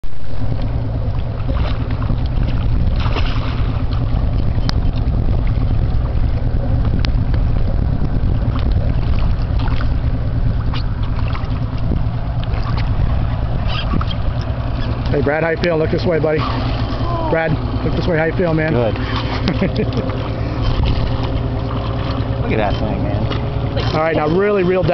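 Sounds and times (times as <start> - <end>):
motorboat engine rumbling: 0.0 - 24.9
wind on microphone: 0.0 - 24.9.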